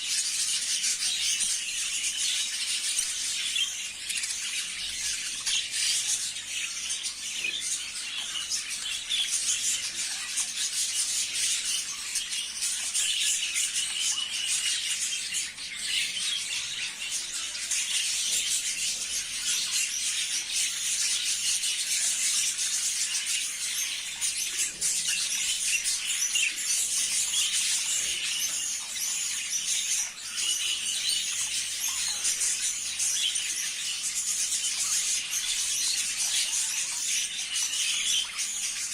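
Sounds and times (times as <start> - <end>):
flock of budgerigars chattering: 0.0 - 38.9.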